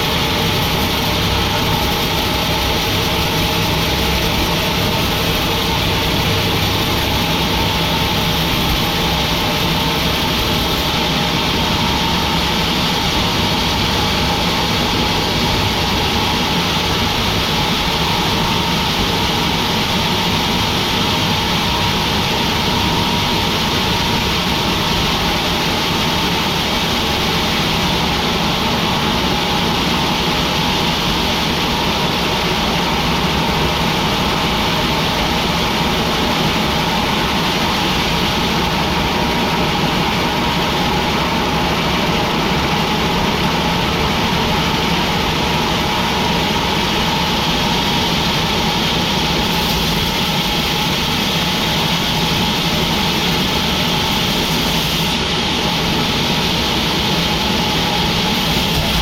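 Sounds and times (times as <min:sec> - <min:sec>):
constant machine whine: 0:00.0 - 0:59.0
sawmill machinery droning: 0:00.0 - 0:59.0.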